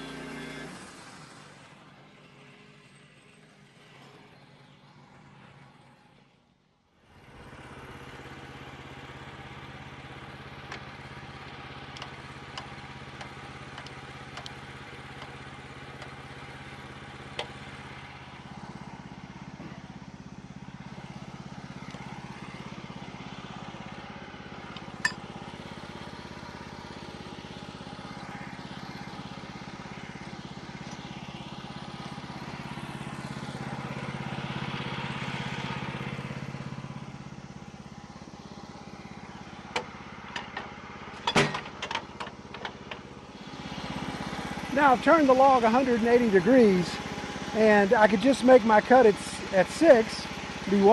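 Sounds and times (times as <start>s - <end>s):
sawmill engine running: 0.0s - 6.4s, 7.0s - 50.9s.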